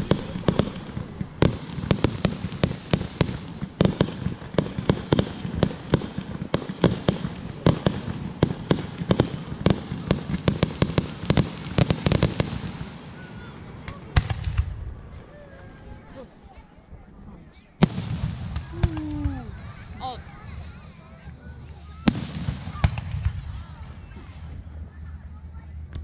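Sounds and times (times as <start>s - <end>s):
fireworks bangs and pops: 0.0s - 15.3s, 17.8s - 24.6s.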